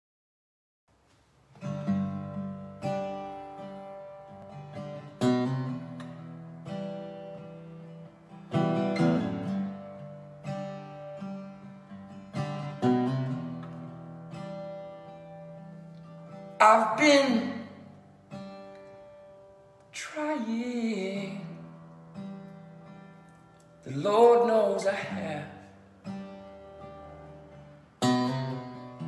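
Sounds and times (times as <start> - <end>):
acoustic guitar chords ringing: 1.5 - 29.0.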